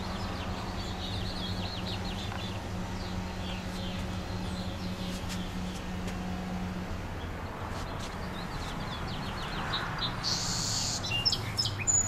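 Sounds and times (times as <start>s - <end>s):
small birds chirping: 0.0s - 6.3s, 7.1s - 12.0s.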